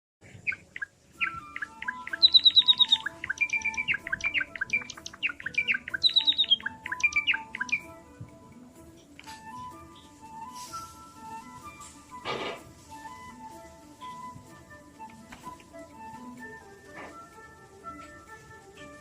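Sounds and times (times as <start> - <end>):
sparrow singing: 0.3 - 19.0.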